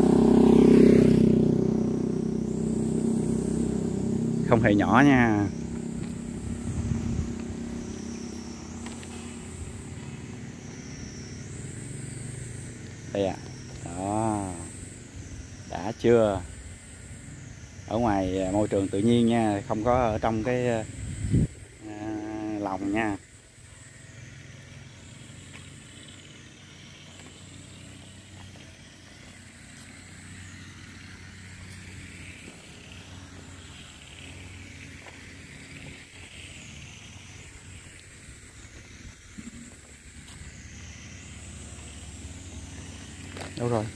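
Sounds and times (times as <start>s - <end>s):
low engine hum: 0.0s - 43.9s
shrill cicada chorus: 0.0s - 43.9s.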